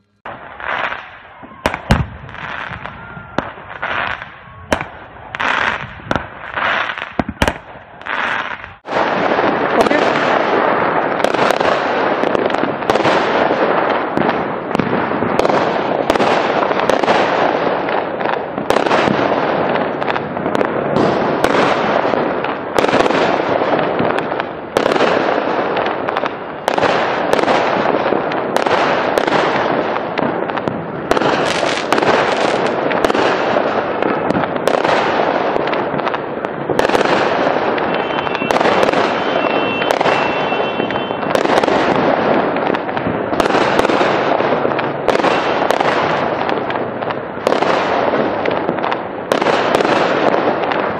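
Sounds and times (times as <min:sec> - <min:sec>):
firework stars crackling: 0:00.0 - 0:50.9
firework shells bursting: 0:00.2 - 0:50.9.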